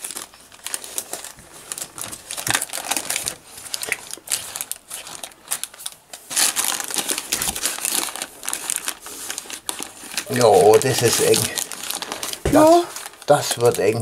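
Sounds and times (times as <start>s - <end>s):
baking paper crinkling: 0.0s - 14.0s.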